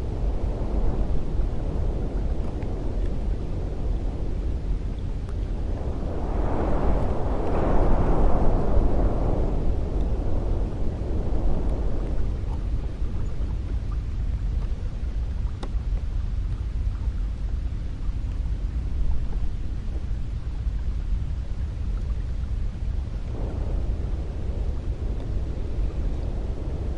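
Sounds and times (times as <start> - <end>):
cold wind blowing: 0.0 - 26.9.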